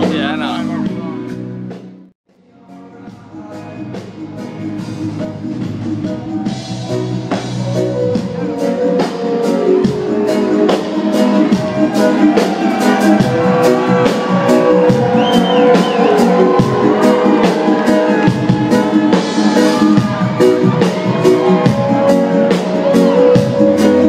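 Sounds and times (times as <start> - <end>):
live reggae band: 0.0 - 24.0.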